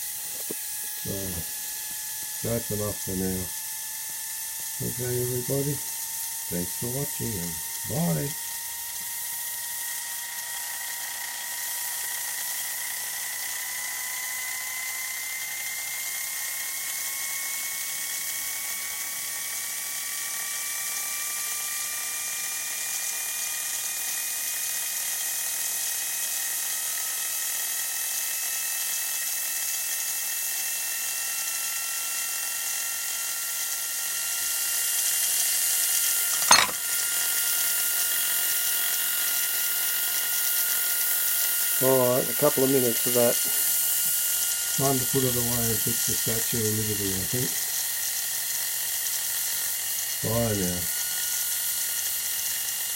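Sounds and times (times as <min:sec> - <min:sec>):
toy steam engine whine: 0:00.0 - 0:52.9.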